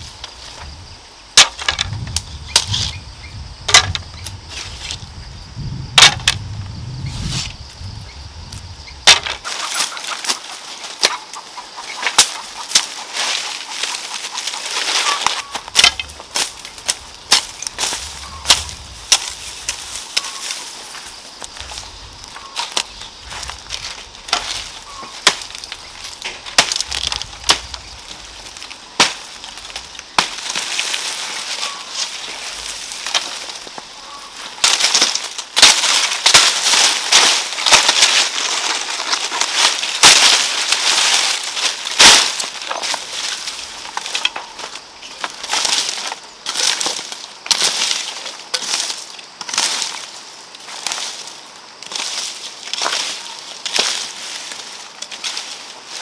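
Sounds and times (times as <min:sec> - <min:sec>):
stalks snapping and rustling: 0:01.4 - 0:03.0, 0:03.7 - 0:05.0, 0:06.0 - 0:06.5, 0:08.5 - 0:56.0.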